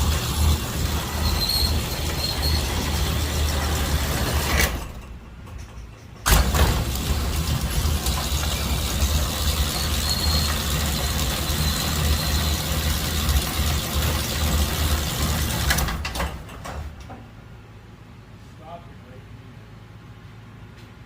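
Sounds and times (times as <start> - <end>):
overhead door motor rattling: 0.0 - 17.3.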